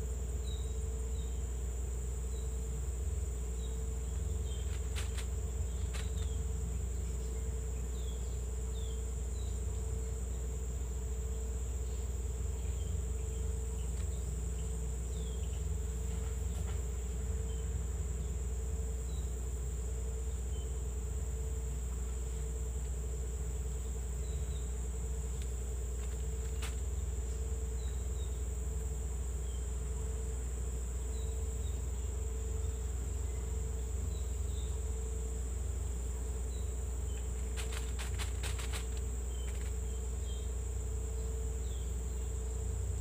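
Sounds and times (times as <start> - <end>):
high insect chirps: 0.0 - 43.0
insect chorus drone: 0.0 - 43.0.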